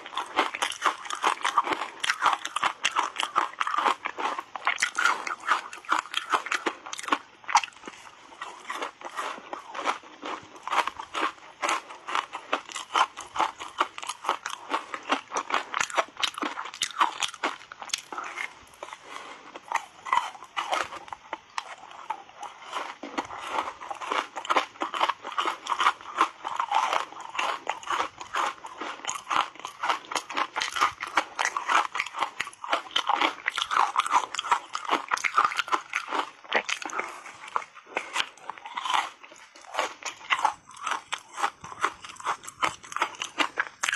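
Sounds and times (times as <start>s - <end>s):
crunching and chewing ice: 0.0s - 43.9s.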